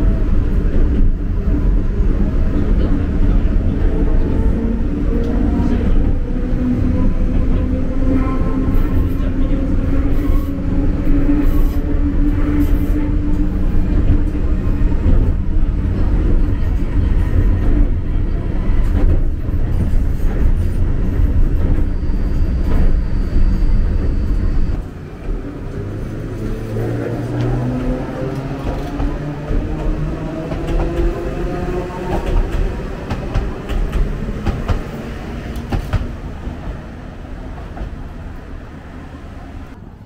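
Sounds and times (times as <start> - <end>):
train interior running rumble: 0.0 - 40.0.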